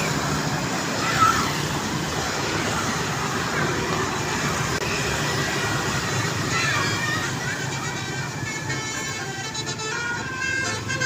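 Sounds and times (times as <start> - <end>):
traffic rumble and hiss: 0.0 - 11.0.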